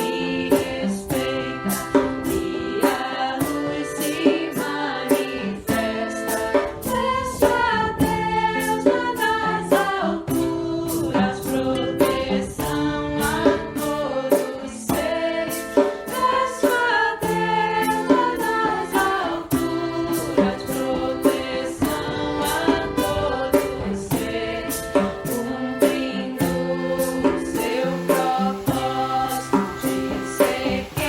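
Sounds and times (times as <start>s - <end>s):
choir singing over a beat: 0.0s - 31.0s.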